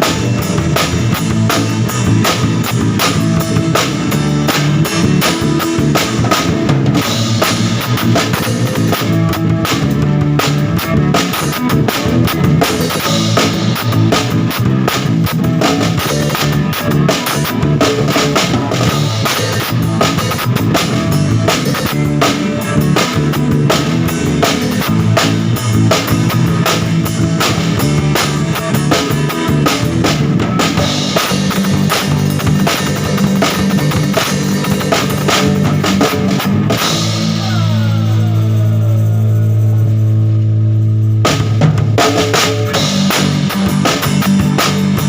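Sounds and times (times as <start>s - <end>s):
bass guitar: 0.0s - 45.0s
drum kit: 0.0s - 45.0s
electric guitar: 0.0s - 45.0s.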